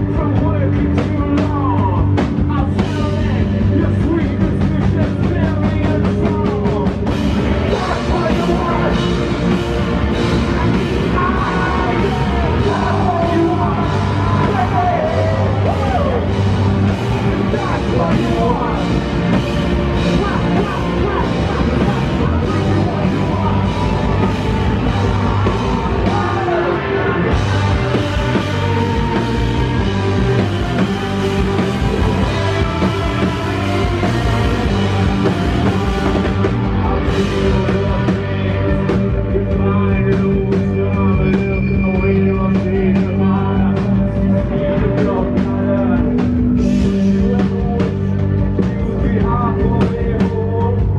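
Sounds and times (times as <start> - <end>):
bass guitar: 0.0 - 50.9
distorted electric guitars: 0.0 - 50.9
drums: 0.0 - 50.9.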